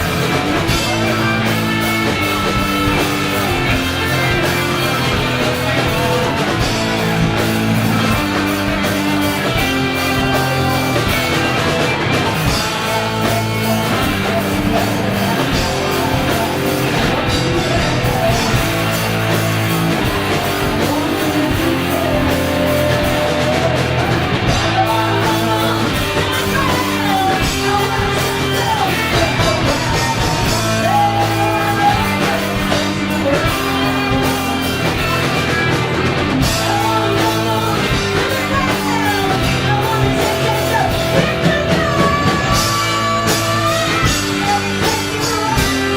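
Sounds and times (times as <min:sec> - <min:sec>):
live rock band playing: 0:00.0 - 0:45.9
person singing: 0:00.0 - 0:45.9.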